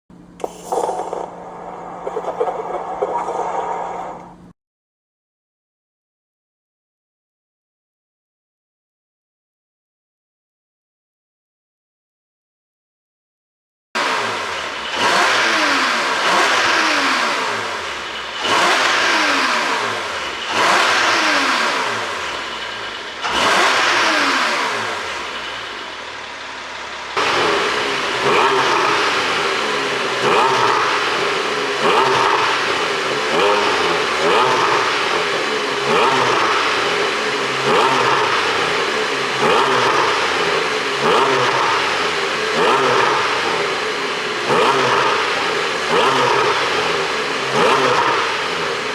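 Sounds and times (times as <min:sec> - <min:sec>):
car engine revving with exhaust pops: 0:00.2 - 0:04.5, 0:14.0 - 0:48.9.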